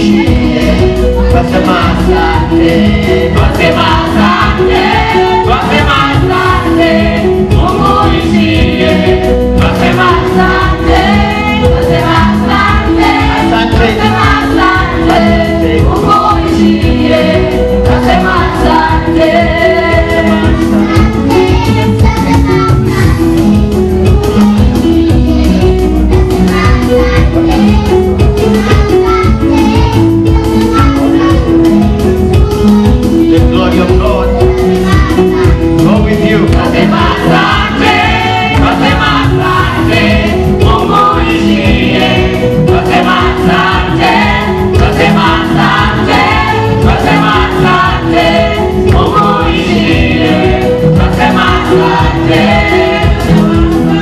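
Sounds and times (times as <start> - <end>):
gospel choir singing: 0.0 - 54.0
steady beat: 0.0 - 54.0.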